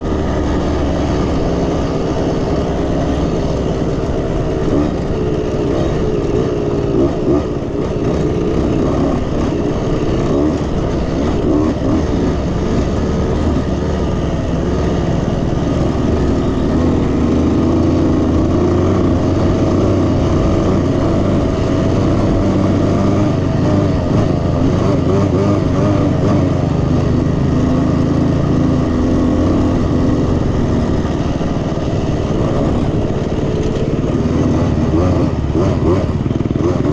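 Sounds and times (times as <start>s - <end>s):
dirt bike engine running: 0.0s - 36.9s.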